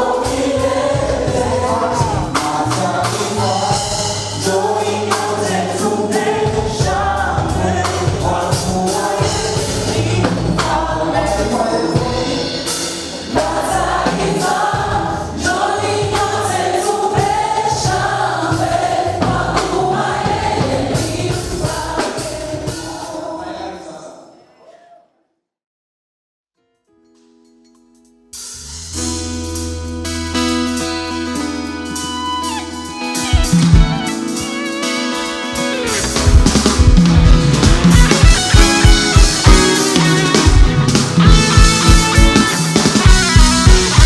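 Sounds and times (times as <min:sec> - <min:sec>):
band with bass and drums: 0:00.0 - 0:23.2, 0:28.4 - 0:44.0
choir singing: 0:00.0 - 0:24.6, 0:31.8 - 0:44.0.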